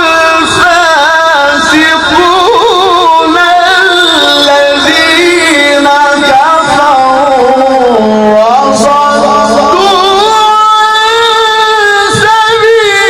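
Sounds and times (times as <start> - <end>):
person reciting melodically: 0.0 - 13.0.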